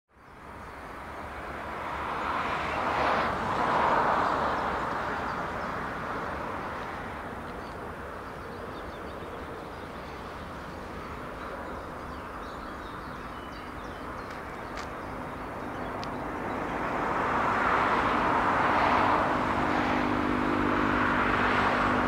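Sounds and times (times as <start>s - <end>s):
vehicle passing close by: 0.9s - 22.0s.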